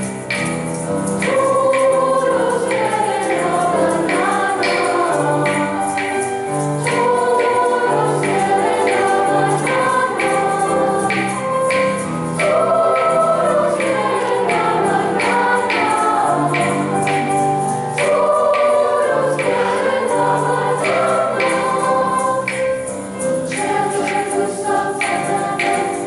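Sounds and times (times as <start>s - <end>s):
choir singing: 0.0s - 26.0s.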